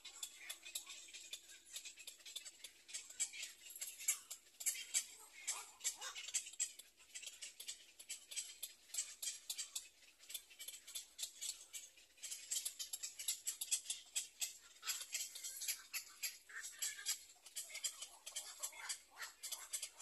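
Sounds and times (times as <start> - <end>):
birds clicking and chirping: 0.0 - 20.0.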